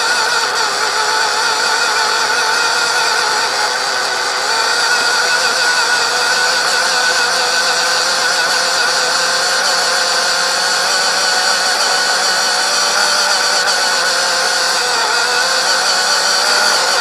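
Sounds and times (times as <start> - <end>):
toy car motor whine: 0.0 - 17.0.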